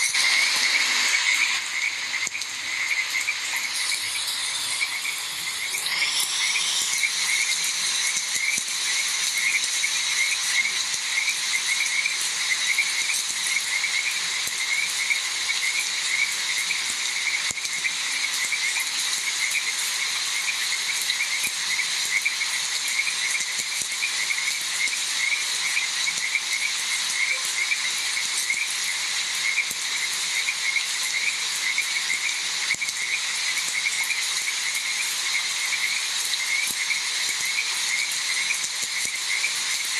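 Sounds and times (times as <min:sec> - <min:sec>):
frogs croaking: 0:00.0 - 0:39.9
rain hiss: 0:00.0 - 0:39.9.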